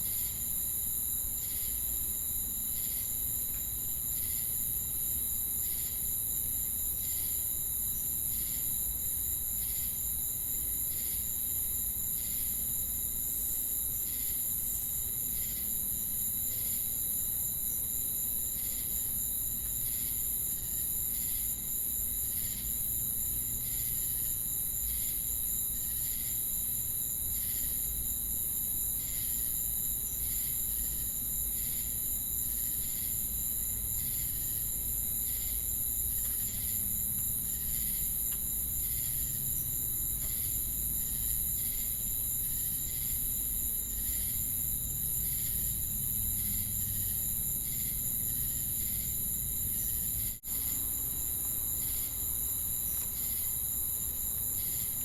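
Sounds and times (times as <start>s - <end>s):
insect trill: 0.0s - 55.0s
pulsing cricket chirp: 0.0s - 55.0s.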